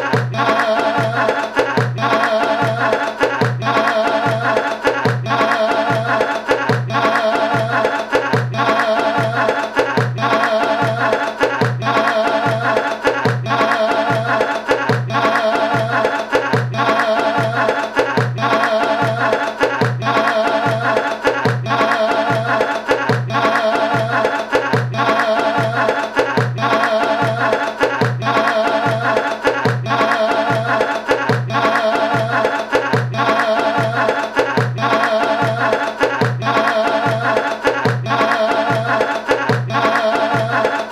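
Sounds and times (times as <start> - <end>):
folk music with fast percussion: 0.0 - 40.9.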